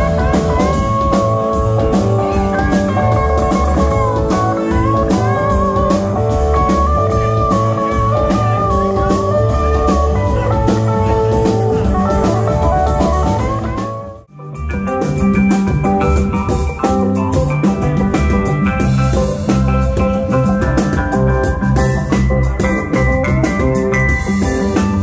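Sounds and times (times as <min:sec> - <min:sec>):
keyboard: 0:00.0 - 0:25.0
lead guitar bending: 0:00.0 - 0:25.0
live jam band playing: 0:00.0 - 0:25.0.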